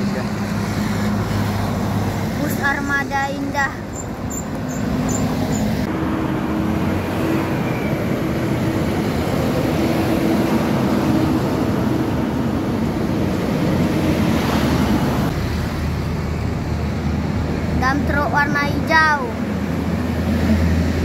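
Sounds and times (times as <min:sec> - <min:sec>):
passing cars and motorbikes: 0:00.0 - 0:21.0
truck engine droning: 0:00.0 - 0:21.0.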